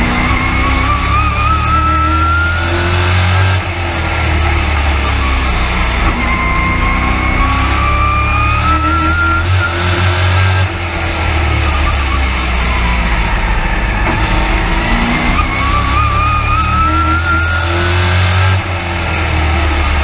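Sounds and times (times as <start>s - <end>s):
truck engine accelerating: 0.0s - 20.0s.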